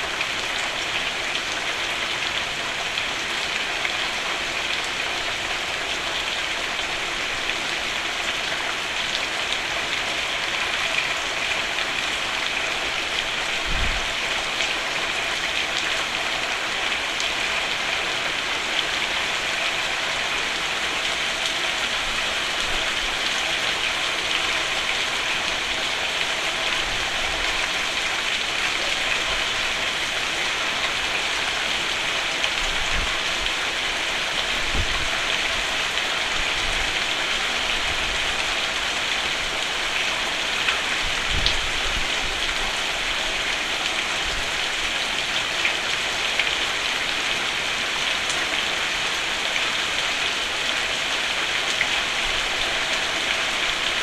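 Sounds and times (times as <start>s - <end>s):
rain on a roof: 0.0s - 54.0s.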